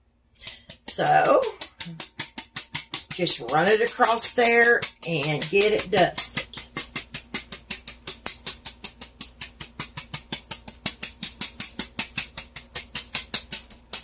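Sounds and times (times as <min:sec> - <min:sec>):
flour sifter clicking: 0:00.4 - 0:14.0.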